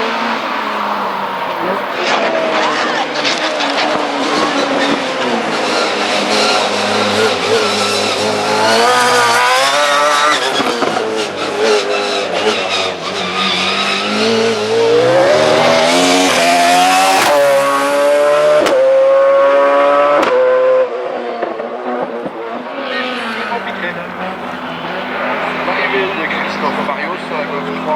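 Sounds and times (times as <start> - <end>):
racing car engine accelerating: 0.0 - 27.9.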